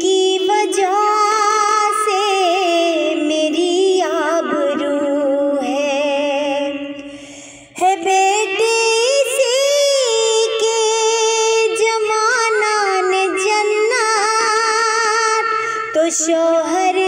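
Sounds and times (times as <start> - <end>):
woman singing devotional song: 0.0 - 17.0.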